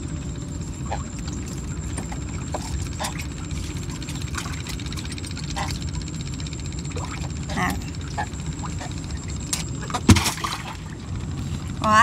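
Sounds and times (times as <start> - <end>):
small boat engine idling: 0.0 - 12.0.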